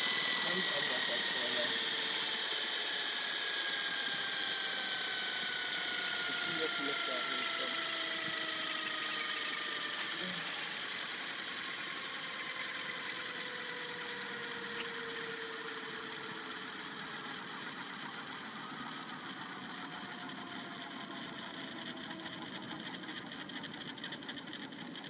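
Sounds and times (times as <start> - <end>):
motor and gears whining: 0.0 - 25.0
rotor blades swishing: 0.0 - 25.0.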